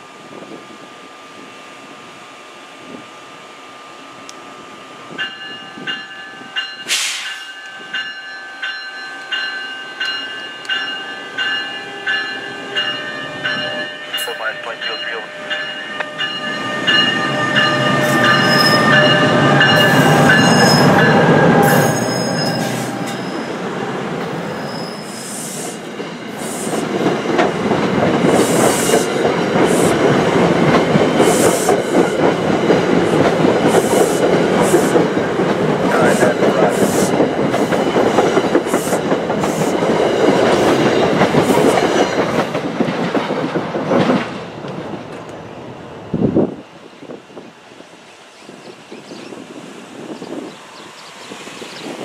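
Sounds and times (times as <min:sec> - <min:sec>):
electric locomotive whine: 0:00.0 - 0:52.0
train rumble: 0:00.0 - 0:52.0
rail clacks of passing coaches: 0:05.1 - 0:52.0.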